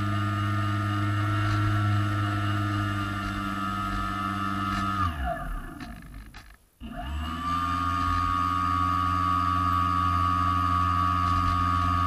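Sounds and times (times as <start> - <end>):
airboat propeller motor winding down: 0.0 - 12.0.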